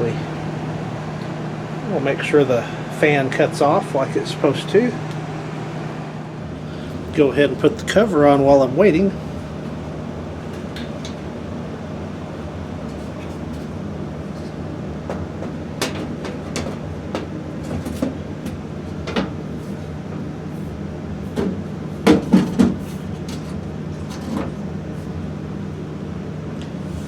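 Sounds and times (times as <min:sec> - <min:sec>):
furnace blower fan running: 0:00.0 - 0:27.0.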